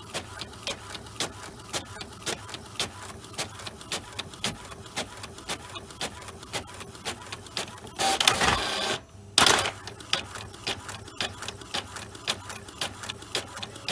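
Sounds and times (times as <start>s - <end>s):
printer rushing mechanical noise: 0.0s - 13.9s
printer ticking: 0.0s - 13.9s.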